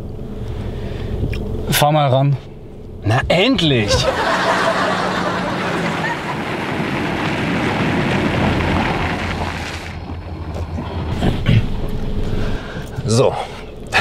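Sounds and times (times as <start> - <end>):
car engine running: 0.0 - 14.0
tyre and road noise: 2.6 - 14.0.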